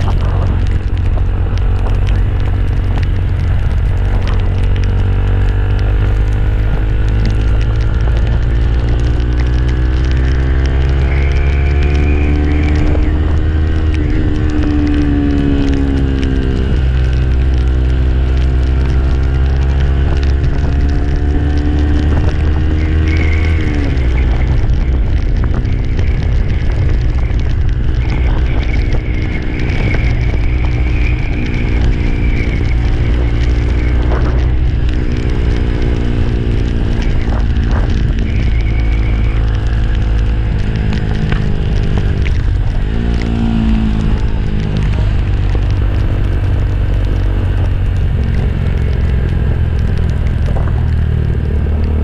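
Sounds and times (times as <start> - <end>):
low rumble: 0.0 - 52.0
motorcycle engine running: 0.0 - 52.0
wind rushing over microphone: 0.0 - 52.0.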